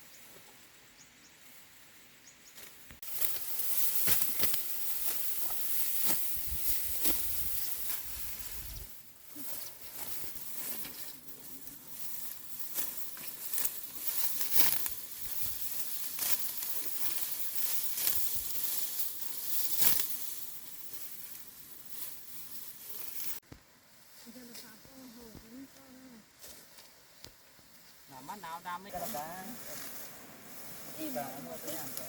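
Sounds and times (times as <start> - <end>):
steady hiss: 0.0 - 32.0
dry plant stalks rustling: 2.6 - 32.0.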